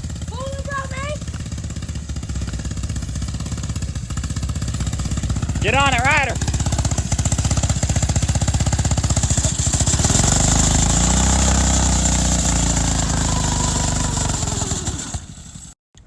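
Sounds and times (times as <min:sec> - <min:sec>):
small engine running flat out: 0:00.0 - 0:15.8.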